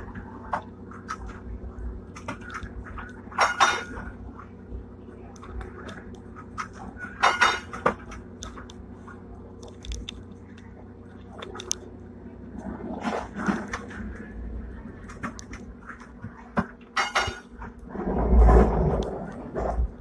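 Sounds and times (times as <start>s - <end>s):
tram low hum: 0.0s - 16.6s.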